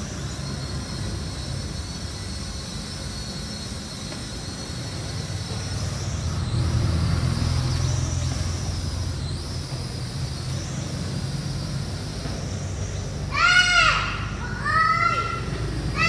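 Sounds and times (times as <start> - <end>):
toy drone propellers buzzing: 0.0 - 16.0.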